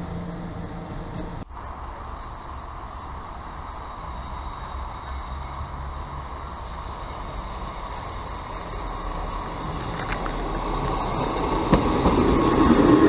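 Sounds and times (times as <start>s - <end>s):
diesel engine hum: 0.0s - 13.0s
train wheel noise: 0.0s - 13.0s.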